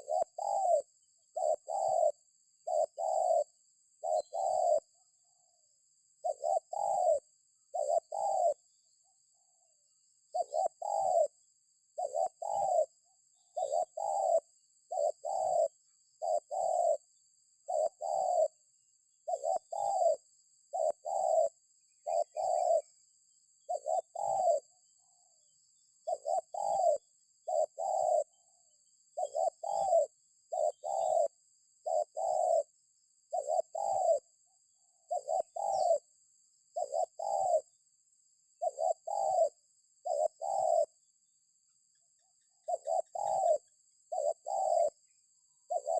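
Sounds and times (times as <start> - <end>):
dove cooing: 0.0 - 41.1, 41.8 - 45.9.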